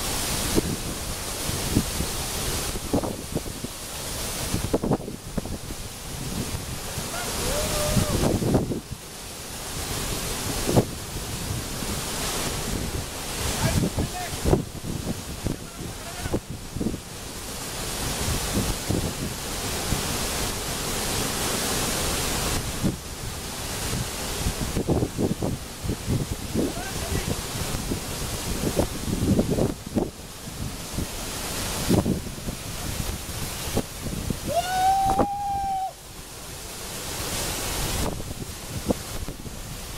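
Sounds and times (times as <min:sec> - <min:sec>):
wind buffeting microphone: 0:00.0 - 0:20.6, 0:22.4 - 0:39.9
waterfall rushing: 0:00.0 - 0:39.9.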